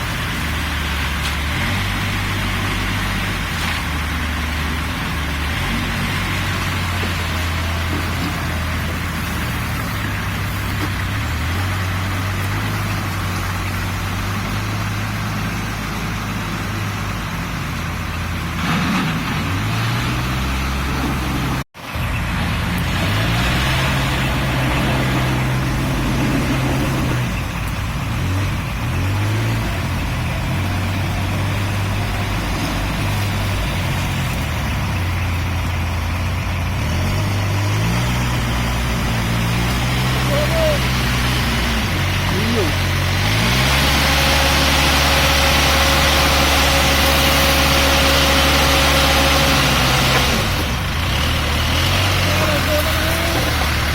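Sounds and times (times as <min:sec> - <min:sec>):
backhoe diesel engine running: 0:00.0 - 0:53.9.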